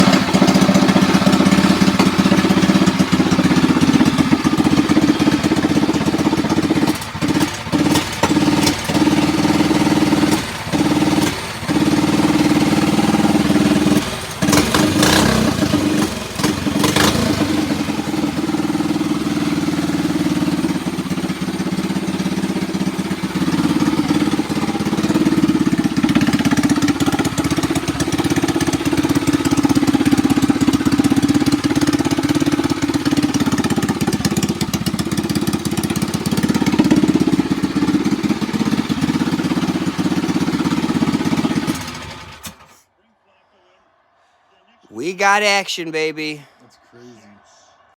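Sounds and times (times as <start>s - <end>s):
mini bike engine running: 0.0s - 42.7s.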